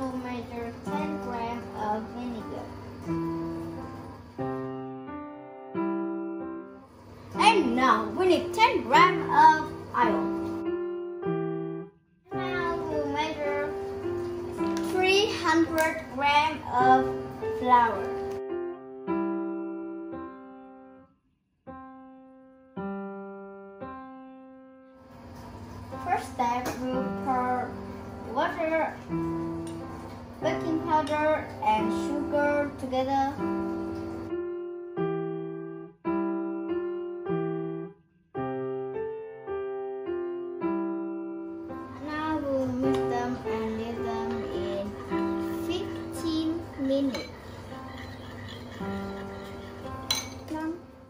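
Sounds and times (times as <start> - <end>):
piano chords: 0.0 - 21.1, 21.7 - 51.0.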